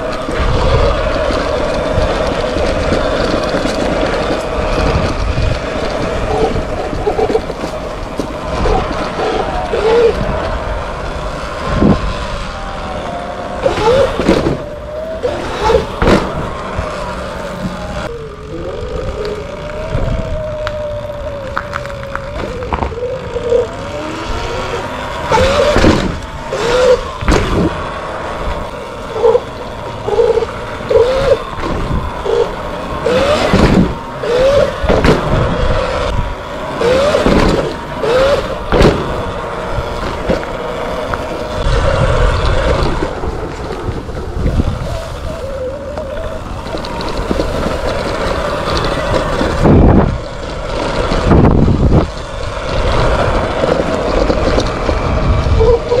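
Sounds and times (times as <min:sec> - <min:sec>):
electric motor whine: 0:00.0 - 0:56.0
loud rushes of noise: 0:00.0 - 0:56.0
tyre and ride noise: 0:00.0 - 0:56.0.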